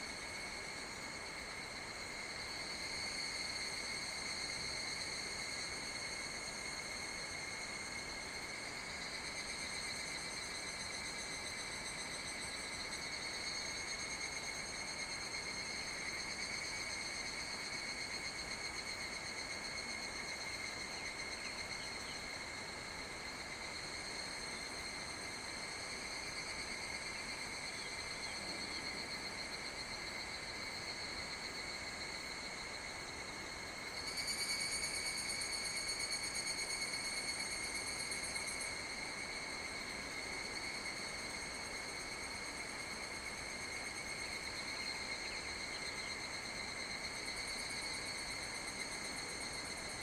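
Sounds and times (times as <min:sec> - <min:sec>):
insects trilling: 0:00.0 - 0:50.0.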